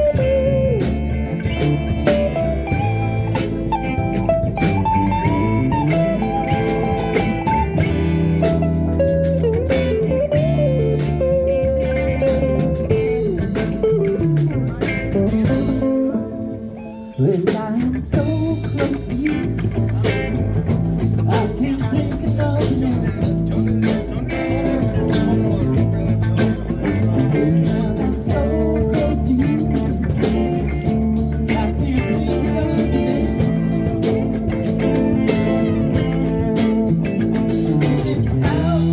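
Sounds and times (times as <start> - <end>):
electric guitar sliding notes: 0.0 - 17.5, 18.3 - 38.9
blues band playing: 0.0 - 38.9.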